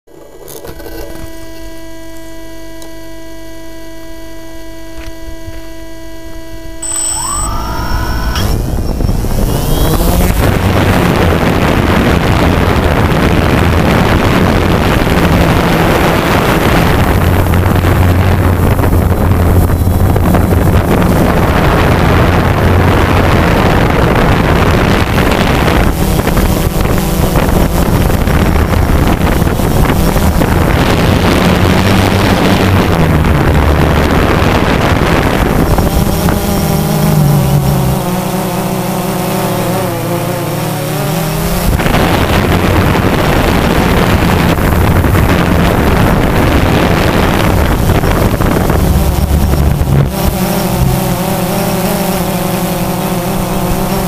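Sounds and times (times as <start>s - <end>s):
drone propeller whine: 0.1s - 54.0s
wind on microphone: 6.8s - 54.0s.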